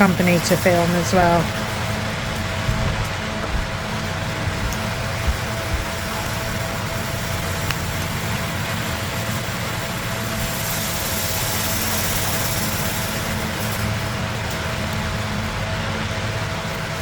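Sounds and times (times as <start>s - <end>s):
low mechanical hum: 0.0s - 17.0s
thin steady tone: 0.0s - 17.0s.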